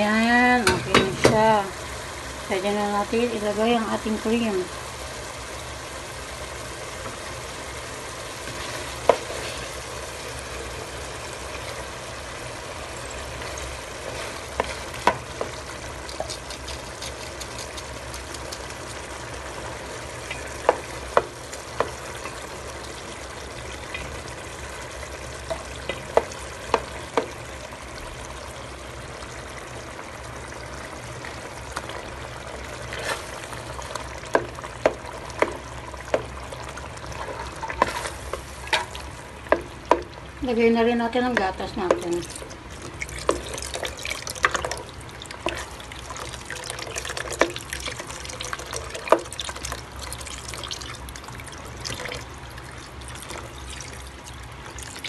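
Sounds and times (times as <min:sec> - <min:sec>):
chicken sizzling in butter: 0:00.0 - 0:55.0.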